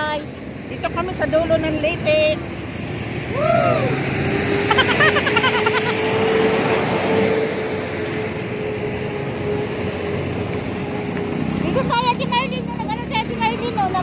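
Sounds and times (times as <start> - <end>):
busy road traffic: 0.0 - 14.0.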